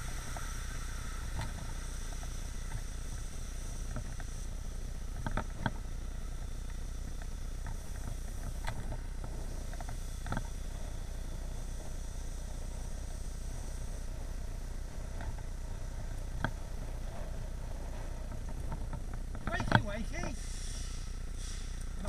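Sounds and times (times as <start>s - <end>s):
wind and road noise rumble: 0.0s - 22.0s.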